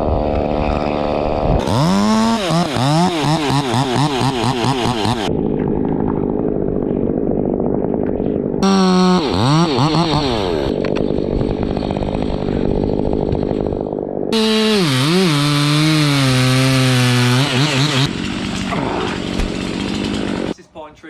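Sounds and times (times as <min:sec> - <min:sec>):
chainsaw idling and cutting: 0:00.0 - 0:05.6, 0:06.2 - 0:20.6.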